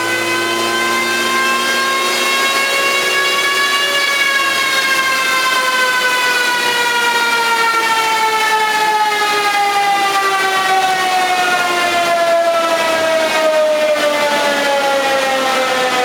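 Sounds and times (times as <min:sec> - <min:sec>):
rally car on dynamometer whining: 0:00.0 - 0:16.0.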